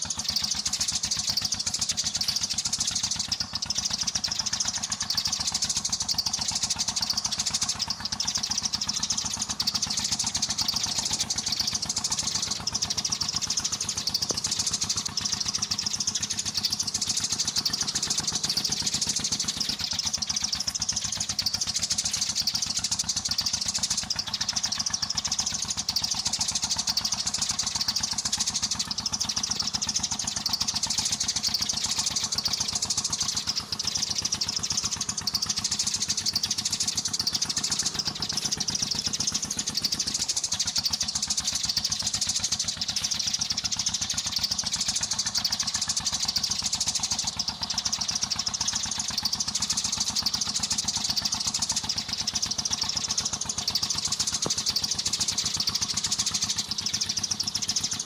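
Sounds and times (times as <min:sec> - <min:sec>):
sparrows chirping: 0:00.0 - 0:58.0
steady low hum: 0:00.0 - 0:58.0.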